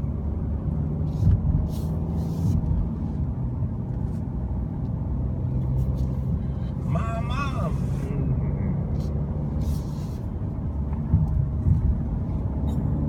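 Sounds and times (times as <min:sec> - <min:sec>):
car engine drone: 0:00.0 - 0:13.0
road and tyre noise: 0:00.0 - 0:13.0.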